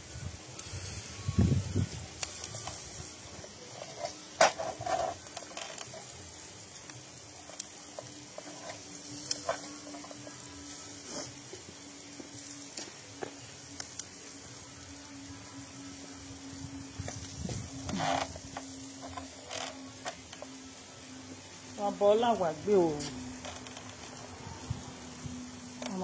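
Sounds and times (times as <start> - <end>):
meat sizzling on a grill: 0.0 - 26.0.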